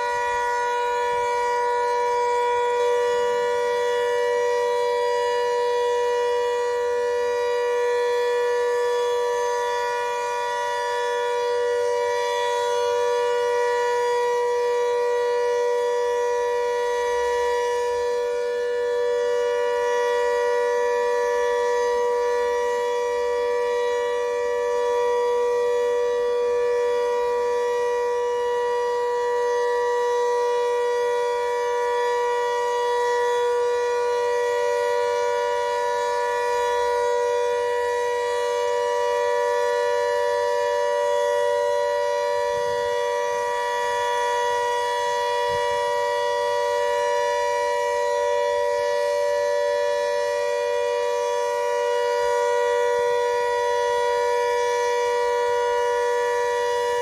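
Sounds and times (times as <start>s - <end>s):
emergency alert alarm tone: 0.0s - 57.0s.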